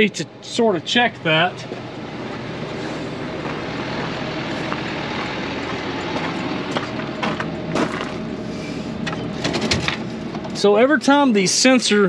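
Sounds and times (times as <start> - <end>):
tractor engine running: 0.0 - 10.7.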